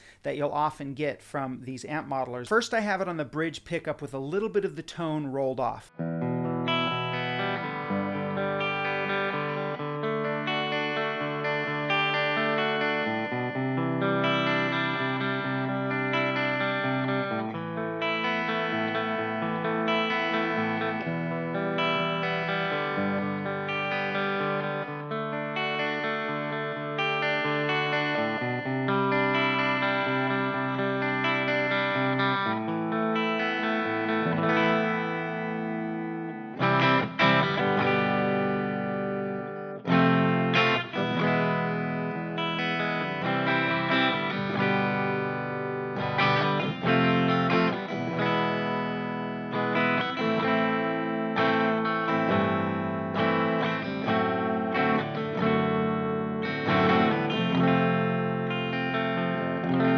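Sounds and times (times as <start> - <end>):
clean electric guitar chords: 5.9 - 59.9.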